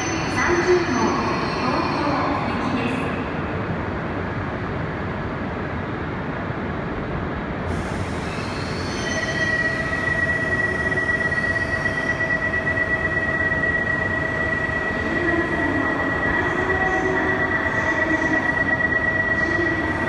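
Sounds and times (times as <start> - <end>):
high-pitched train whine: 0.0 - 20.0.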